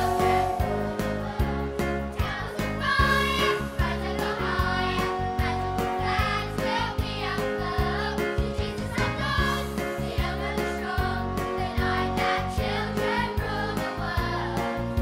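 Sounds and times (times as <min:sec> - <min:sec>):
backing music with steady beat: 0:00.0 - 0:15.0
children's choir singing: 0:00.0 - 0:15.0.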